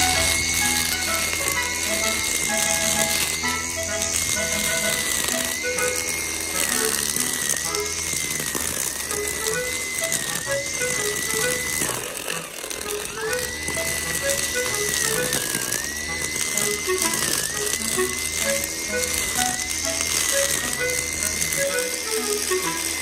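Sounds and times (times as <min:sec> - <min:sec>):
string trimmer motor whine: 0:00.0 - 0:23.0.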